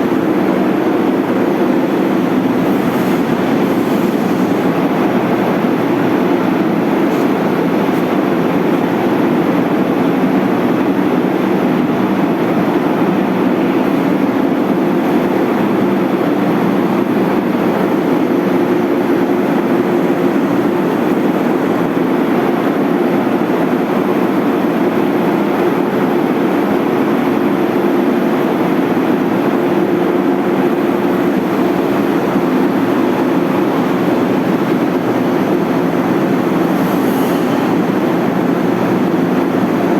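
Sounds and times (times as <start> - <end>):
vacuum pump running: 0.0 - 39.9.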